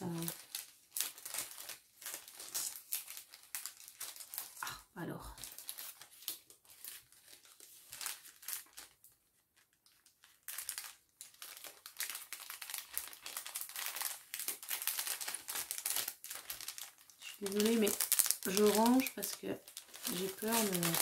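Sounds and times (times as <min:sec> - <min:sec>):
packaging crinkling: 0:00.0 - 0:04.7, 0:05.3 - 0:21.0.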